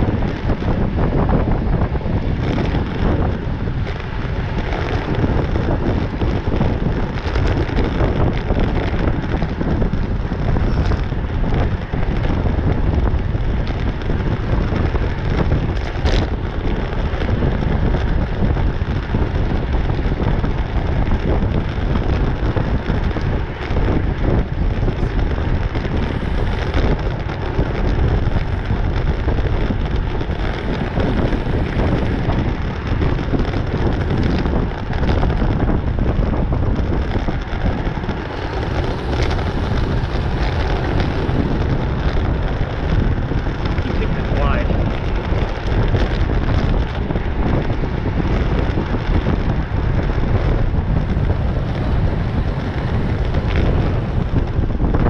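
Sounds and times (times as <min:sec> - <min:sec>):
heavy wind noise on microphone: 0:00.0 - 0:55.0.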